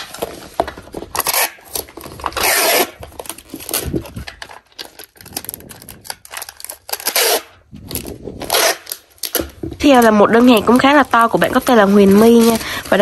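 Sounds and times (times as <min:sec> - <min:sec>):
packing tape tearing rasp: 0:00.0 - 0:13.0.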